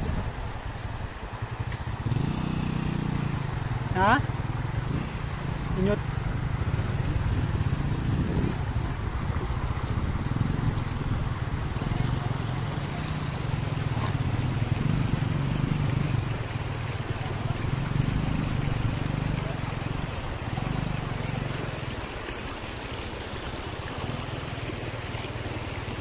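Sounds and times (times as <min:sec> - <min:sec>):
stream rushing over rocks: 0:00.0 - 0:26.0
small motorcycle engine running: 0:01.1 - 0:26.0.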